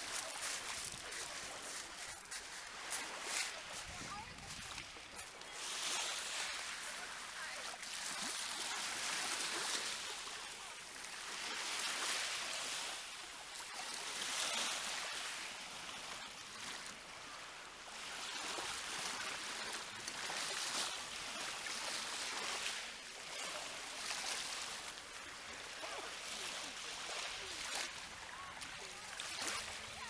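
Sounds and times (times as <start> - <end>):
sea waves washing onto shore: 0.0 - 30.0.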